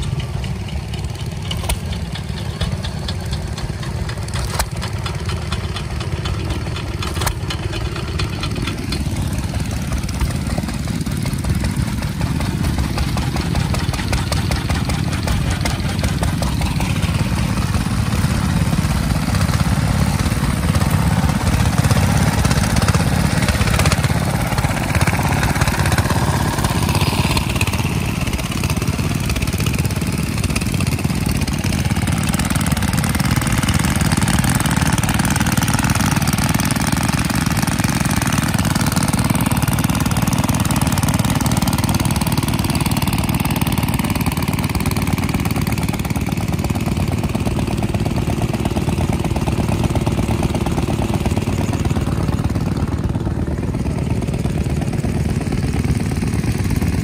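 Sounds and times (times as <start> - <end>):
stationary engines chugging: 0.0 - 57.0.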